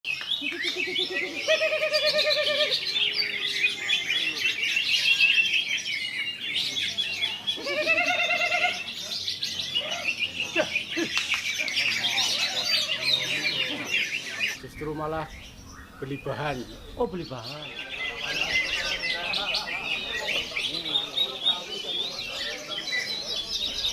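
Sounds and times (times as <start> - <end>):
bird singing chirps and trills: 0.1 - 23.9.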